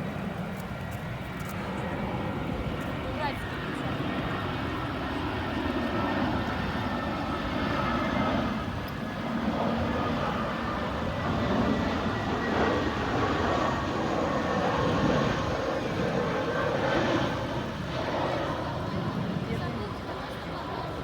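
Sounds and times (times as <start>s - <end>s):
faint jet engine whine: 0.0s - 21.0s.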